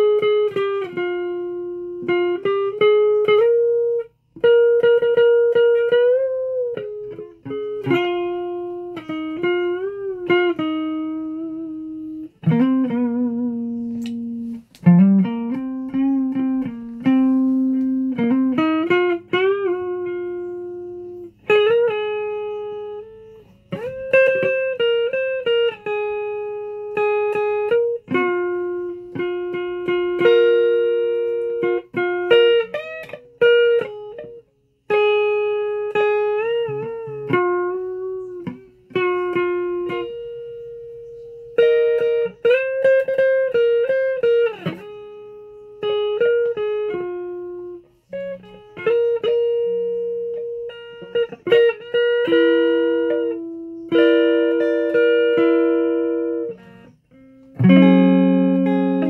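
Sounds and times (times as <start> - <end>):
plucked string instrument: 0.0 - 59.0.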